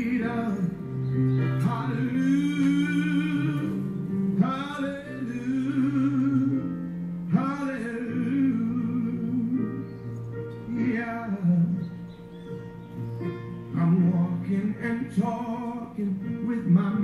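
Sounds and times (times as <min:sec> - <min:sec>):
man singing with vibrato: 0:00.0 - 0:10.0, 0:10.6 - 0:12.1, 0:13.6 - 0:17.0
instrumental accompaniment: 0:00.0 - 0:17.0.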